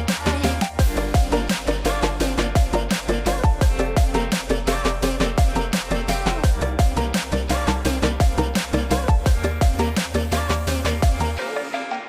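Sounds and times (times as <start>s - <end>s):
upbeat electronic dance music: 0.0s - 12.0s.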